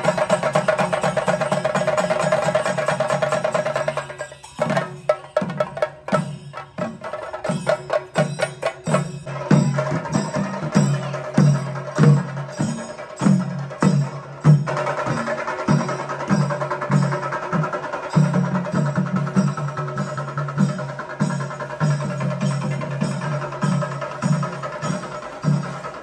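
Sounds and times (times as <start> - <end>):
drums beaten with sticks: 0.0 - 26.0.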